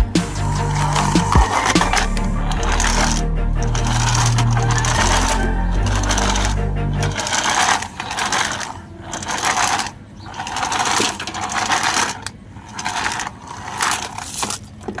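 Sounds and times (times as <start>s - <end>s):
toy car motor rattly bursts: 0.4s - 3.2s, 3.8s - 15.0s.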